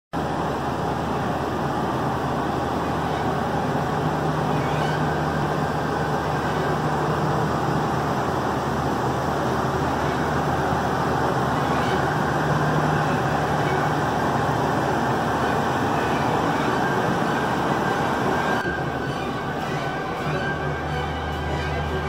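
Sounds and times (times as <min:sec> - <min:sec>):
motorhome engine idling: 0:00.2 - 0:22.0.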